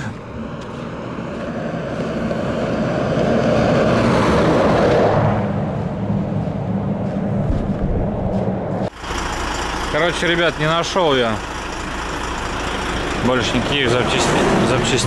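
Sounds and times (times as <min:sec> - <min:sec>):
low engine hum: 0:00.0 - 0:15.0
truck passing close by: 0:00.0 - 0:15.0.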